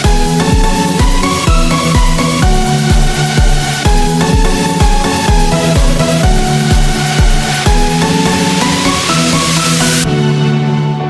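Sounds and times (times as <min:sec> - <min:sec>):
heavy kick drum: 0:00.0 - 0:10.3
electronic dance music: 0:00.0 - 0:11.0.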